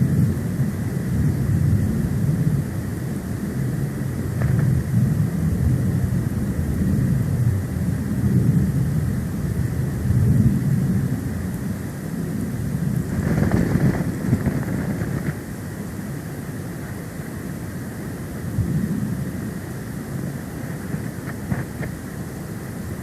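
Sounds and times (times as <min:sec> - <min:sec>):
wind buffeting microphone: 0:00.0 - 0:17.0, 0:18.3 - 0:23.0.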